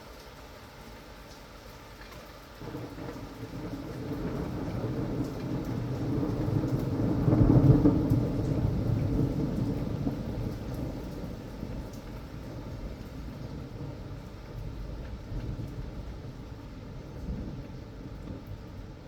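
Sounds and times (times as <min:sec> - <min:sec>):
rain: 0:00.0 - 0:19.0
rolling thunder: 0:02.6 - 0:19.0.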